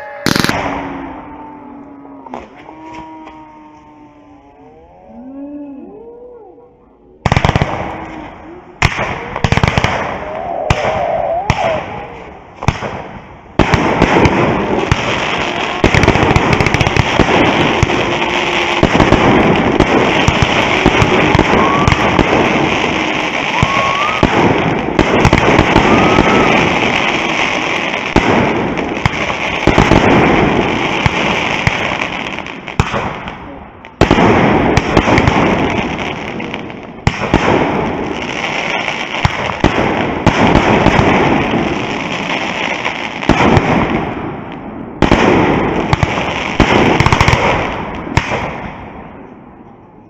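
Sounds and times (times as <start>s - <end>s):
loud firework bangs: 0.0s - 1.2s, 7.2s - 49.2s
crackling firework bursts: 0.0s - 1.3s, 7.2s - 49.1s.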